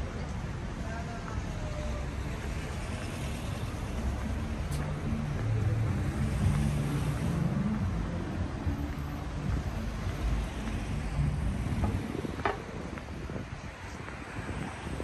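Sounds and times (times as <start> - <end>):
car engines on street: 0.0 - 15.0
car passing by: 1.6 - 15.0.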